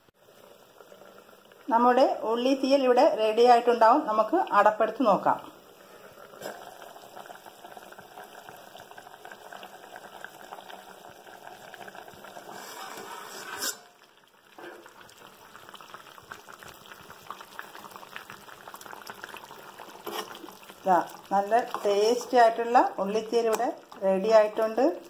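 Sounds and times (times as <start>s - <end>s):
curry bubbling in a pan: 0.0s - 25.0s.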